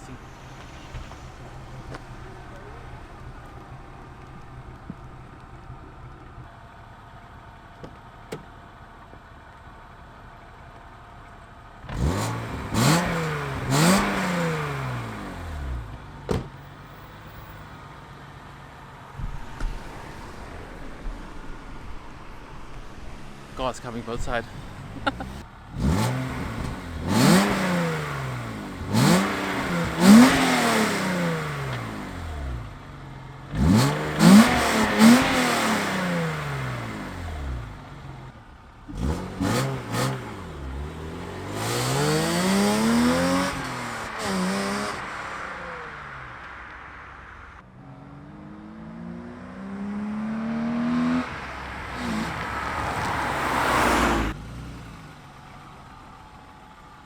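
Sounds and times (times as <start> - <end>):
cars driving past: 0.0 - 7.7, 11.8 - 57.0.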